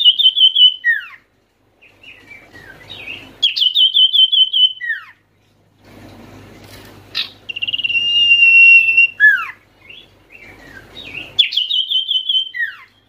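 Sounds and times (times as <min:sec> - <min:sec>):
bird singing trills and whistles: 0:00.0 - 0:01.2, 0:01.8 - 0:05.2, 0:07.1 - 0:13.0.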